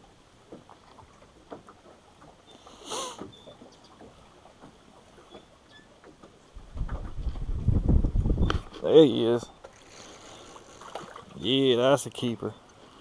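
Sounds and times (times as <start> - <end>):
small knocks and ticks on a boat: 0.0 - 7.5, 8.3 - 11.3.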